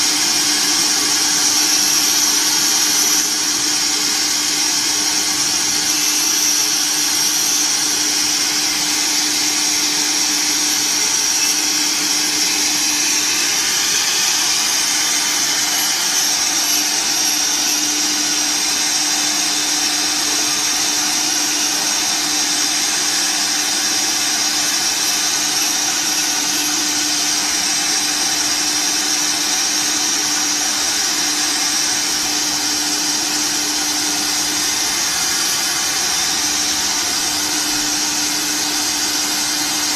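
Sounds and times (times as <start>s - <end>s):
cnc router high-pitched whine: 0.0s - 39.9s.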